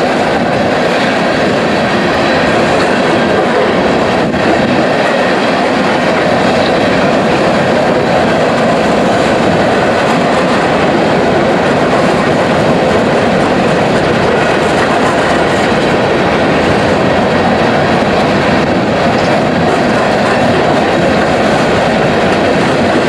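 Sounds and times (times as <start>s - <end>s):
train wheels clattering on rails: 0.0s - 23.0s.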